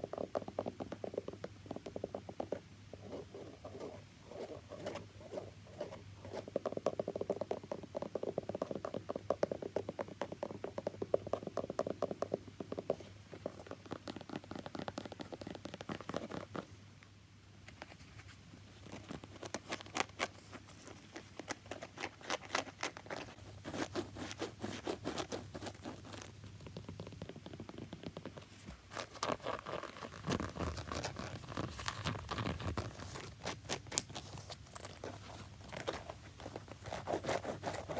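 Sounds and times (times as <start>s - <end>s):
tapping and scratching on shoe: 0.0s - 16.7s, 17.7s - 37.9s.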